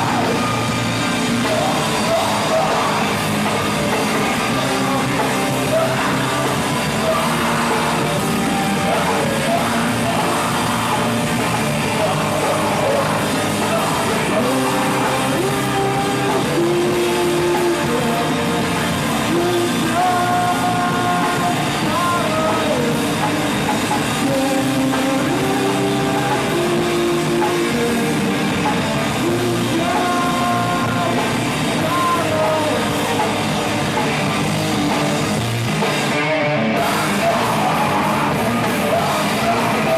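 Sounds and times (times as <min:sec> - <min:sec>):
person singing long notes: 0:00.0 - 0:23.4, 0:24.2 - 0:33.6
drums: 0:00.0 - 0:39.9
electric guitars: 0:00.0 - 0:39.9.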